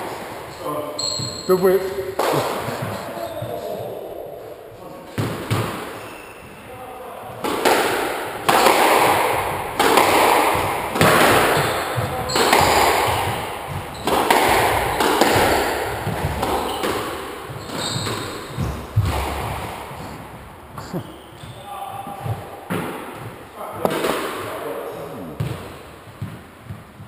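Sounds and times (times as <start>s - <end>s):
squash ball hitting rackets and walls: 0.0s - 27.0s.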